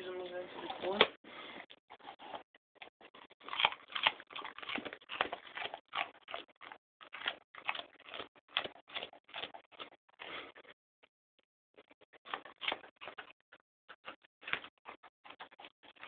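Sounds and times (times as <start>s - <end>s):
dog chewing crunchy pumpkin: 0.0s - 10.7s, 11.8s - 16.0s.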